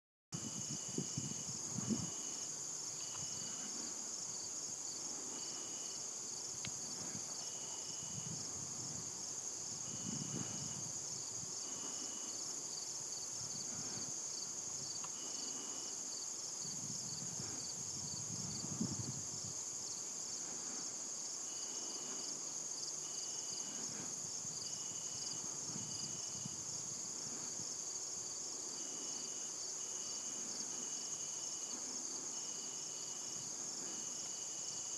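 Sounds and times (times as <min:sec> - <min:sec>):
insects trilling: 0:00.4 - 0:34.9.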